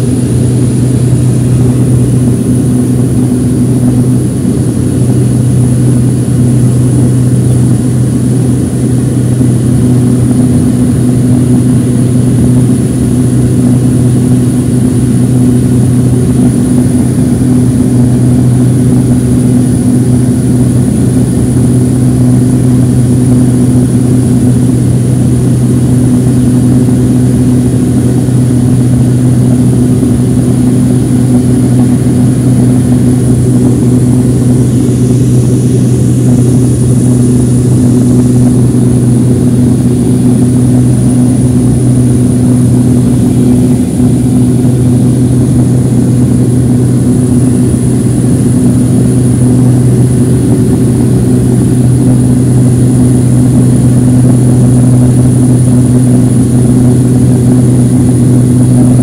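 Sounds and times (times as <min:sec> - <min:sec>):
high engine whine: 0:00.0 - 0:59.0
turboprop engine drone: 0:00.0 - 0:59.0.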